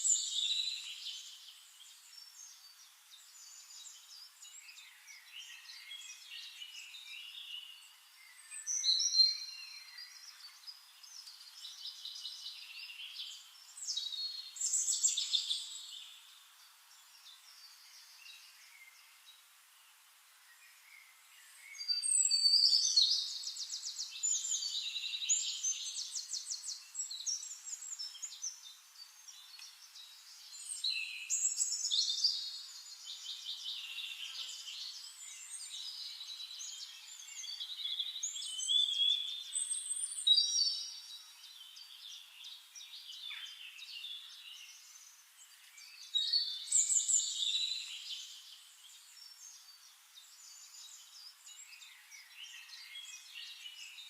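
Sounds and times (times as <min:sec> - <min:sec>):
songbird singing with trills: 0:00.0 - 0:19.5, 0:20.4 - 0:54.0.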